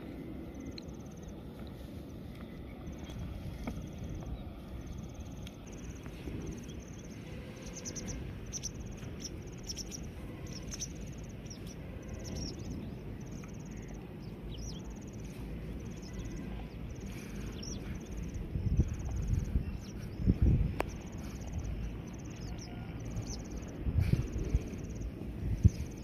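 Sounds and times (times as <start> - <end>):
crickets chirping: 0.0 - 3.1, 3.7 - 26.0
low rumble of wind: 0.0 - 26.0.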